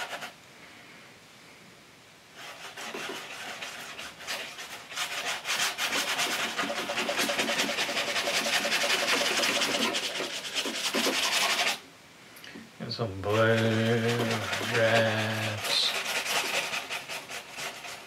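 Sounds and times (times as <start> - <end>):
paintbrush scrubbing canvas: 0.0 - 0.4, 2.4 - 11.8, 13.3 - 18.0.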